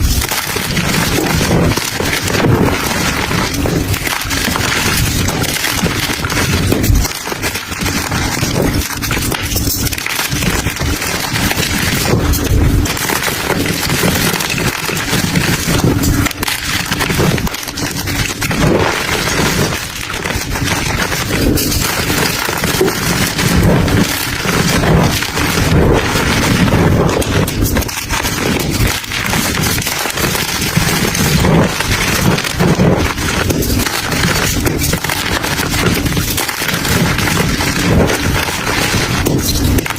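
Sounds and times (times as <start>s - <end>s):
crunchy material crushed by hand: 0.0s - 39.9s.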